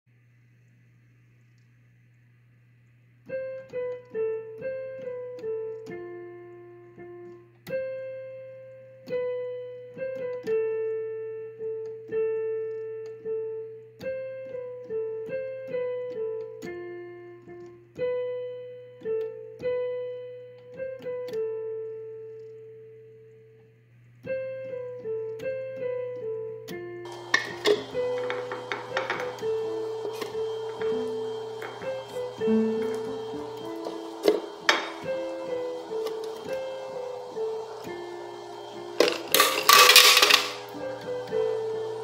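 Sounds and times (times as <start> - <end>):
electric piano melody: 3.3 - 22.7, 24.2 - 42.0.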